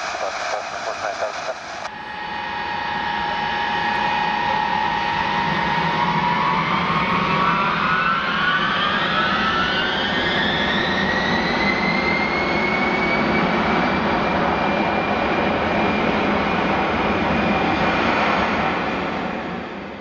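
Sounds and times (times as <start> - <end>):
jet engines spooling up: 0.0 - 20.0.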